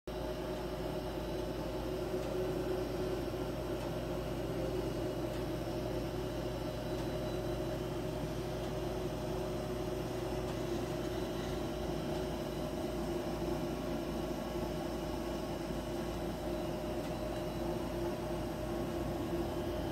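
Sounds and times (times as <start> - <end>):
droning hum: 0.1 - 19.9.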